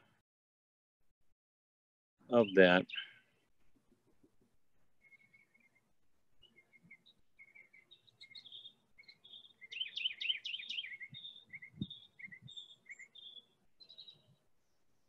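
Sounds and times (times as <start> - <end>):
songbirds chirping: 2.2 - 15.0.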